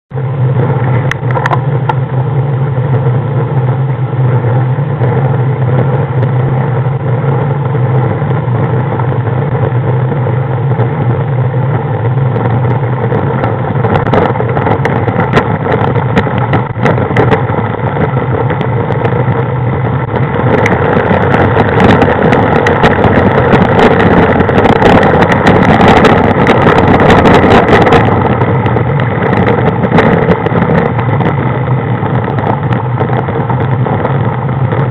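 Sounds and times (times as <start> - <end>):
crackling noise: 0.1 - 34.9
vehicle engine humming: 0.1 - 34.9.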